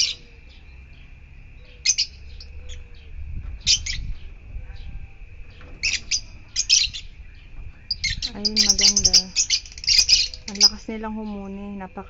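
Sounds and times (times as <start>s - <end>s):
lovebirds shrill chirps: 0.0s - 12.0s.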